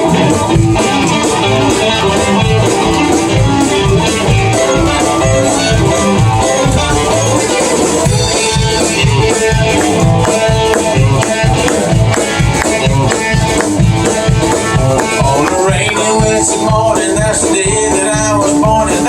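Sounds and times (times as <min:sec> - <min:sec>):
country band playing: 0:00.0 - 0:19.0.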